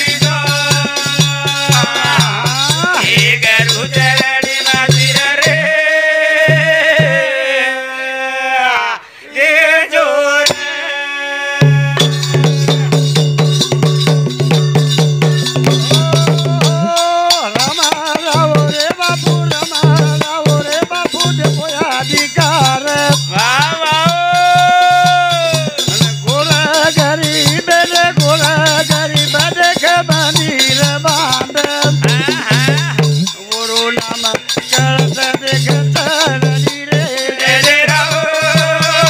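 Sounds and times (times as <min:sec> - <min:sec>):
jingling brass cymbals: 0:00.0 - 0:07.2, 0:11.7 - 0:39.0
man singing long notes: 0:00.0 - 0:13.0, 0:15.4 - 0:39.0.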